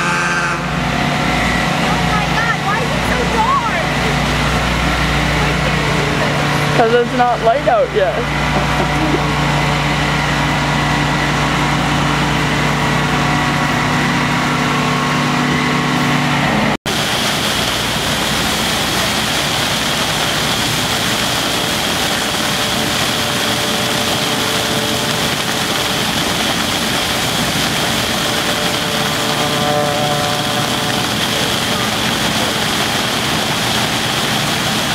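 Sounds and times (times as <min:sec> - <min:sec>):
machine engine humming: 0:00.0 - 0:34.9
snow rushing through a hose: 0:01.4 - 0:14.2, 0:16.9 - 0:34.9.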